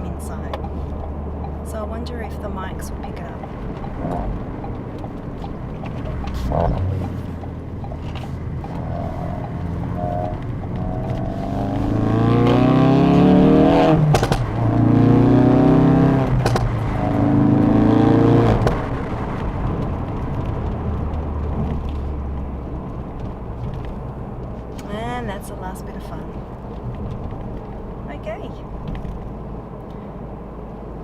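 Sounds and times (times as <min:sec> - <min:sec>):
exhaust cracks: 0:00.0 - 0:30.0
car exhaust accelerating hard: 0:00.0 - 0:31.0.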